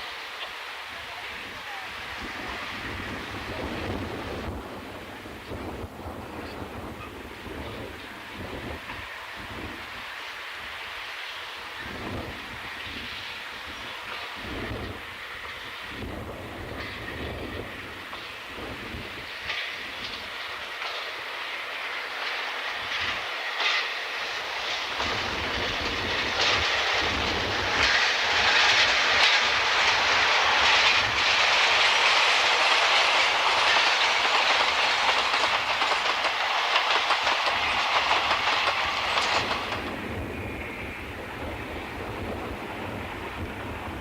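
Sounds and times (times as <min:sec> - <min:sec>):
diesel locomotives running by: 0:00.0 - 0:44.0
train wheels clattering over rail joints: 0:05.6 - 0:42.5.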